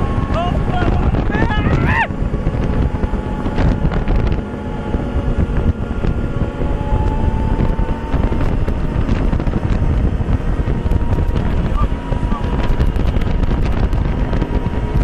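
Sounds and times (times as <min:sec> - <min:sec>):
vehicle engine and road noise: 0:00.0 - 0:15.0
wind buffeting microphone: 0:00.0 - 0:15.0.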